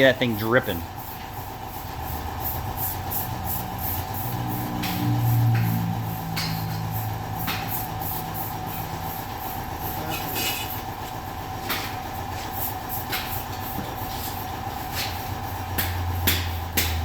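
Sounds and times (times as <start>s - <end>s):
tire-changing machine hum: 0.0s - 17.0s.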